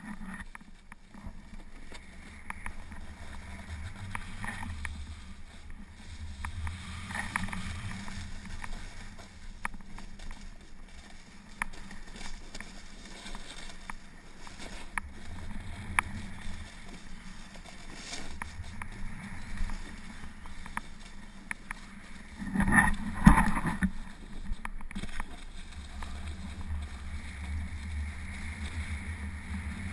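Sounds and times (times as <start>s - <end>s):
scattered clicks: 0.0s - 29.0s
skis scraping over snow: 0.0s - 29.9s.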